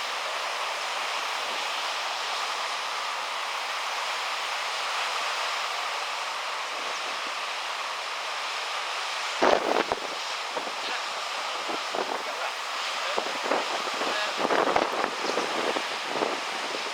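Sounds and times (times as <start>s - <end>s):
sea surf rushing: 0.0s - 16.9s.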